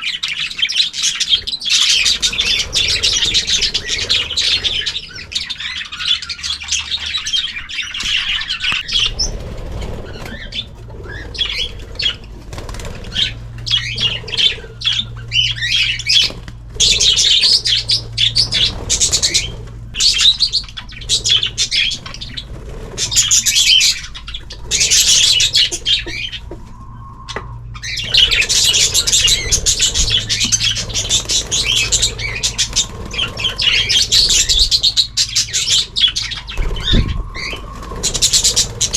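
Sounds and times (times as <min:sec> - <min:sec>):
birds chirping and twittering: 0:00.0 - 0:38.9
wings fluttering: 0:00.0 - 0:38.9.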